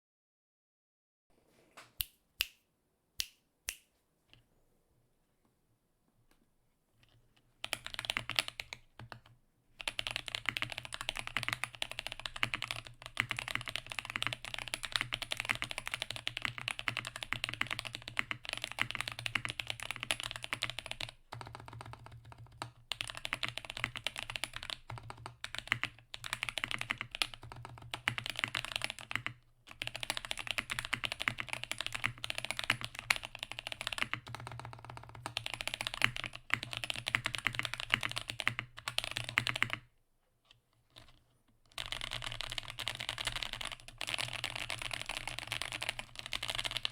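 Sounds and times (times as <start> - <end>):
mechanical keyboard typing: 7.0 - 39.9, 40.9 - 46.9.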